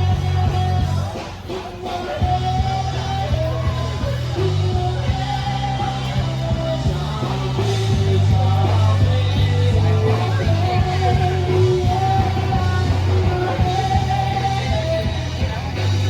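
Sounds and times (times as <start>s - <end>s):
bass: 0.0s - 16.0s
drums: 0.0s - 16.0s
electric guitar: 0.0s - 16.0s.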